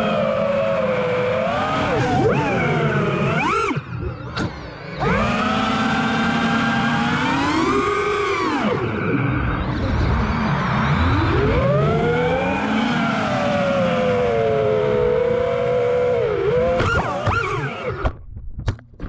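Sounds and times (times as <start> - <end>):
drone motors whining: 0.0 - 18.2.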